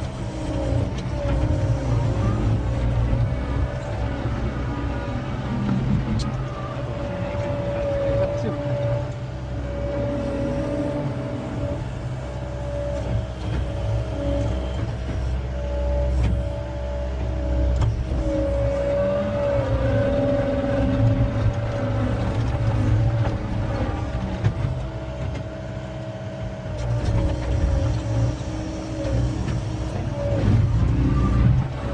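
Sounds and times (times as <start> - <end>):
diesel engine whining under load: 0.0 - 31.9.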